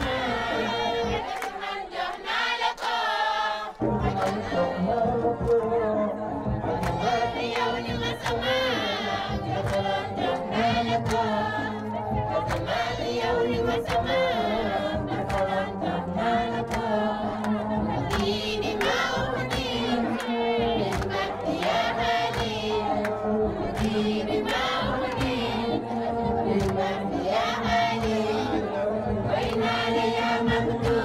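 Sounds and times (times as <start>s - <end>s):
crowd noise: 0.0s - 31.0s
group singing: 0.0s - 31.0s
percussive beats: 3.8s - 31.0s.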